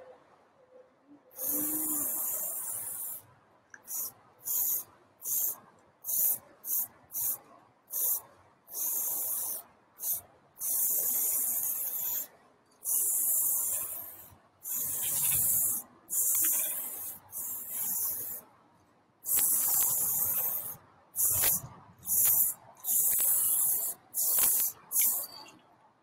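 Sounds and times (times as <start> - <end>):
spray paint can hissing: 1.3 - 3.2, 3.8 - 18.4, 19.2 - 25.6.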